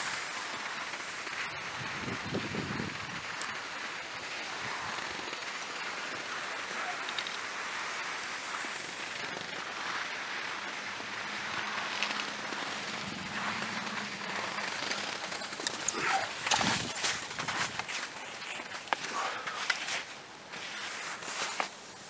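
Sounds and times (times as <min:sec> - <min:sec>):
crunching on snow: 0:00.0 - 0:22.0
skis sliding on snow: 0:00.0 - 0:22.0.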